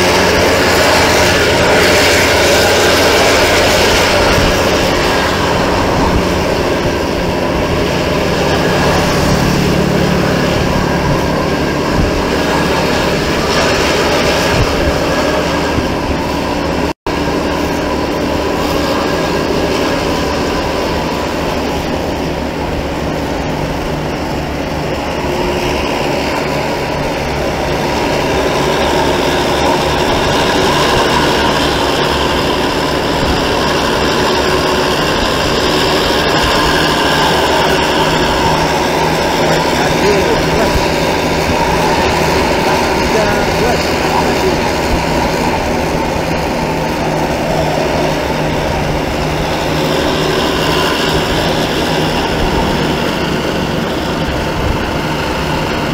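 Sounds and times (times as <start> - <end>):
vehicle engine: 0.0 - 55.9
wind noise while driving: 0.0 - 55.9.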